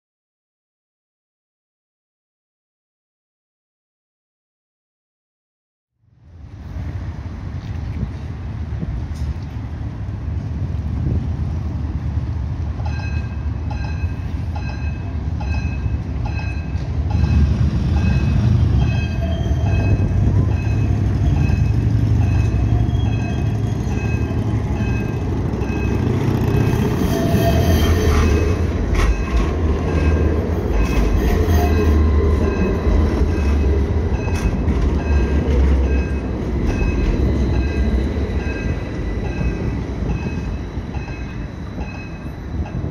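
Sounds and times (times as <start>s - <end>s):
road traffic passing: 6.1s - 42.9s
tram running past: 6.2s - 42.9s.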